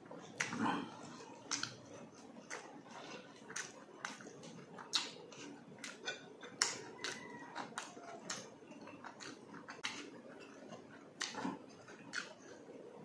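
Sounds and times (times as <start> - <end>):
wet chewing and lip smacks: 0.1 - 12.7.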